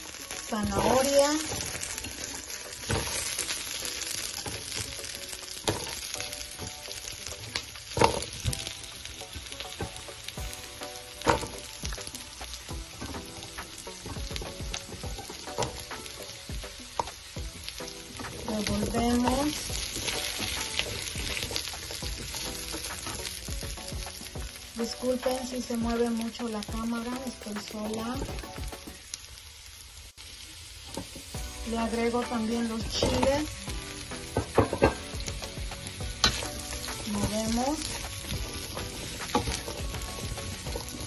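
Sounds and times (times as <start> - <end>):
vegetables sizzling in oil: 0.0 - 41.0.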